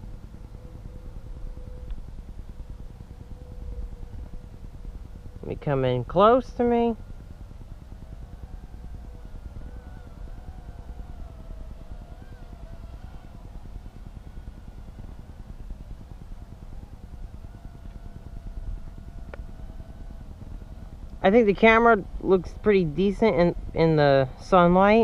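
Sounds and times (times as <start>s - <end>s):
drone propellers whining: 0.0s - 25.0s
low rumble: 0.0s - 25.0s.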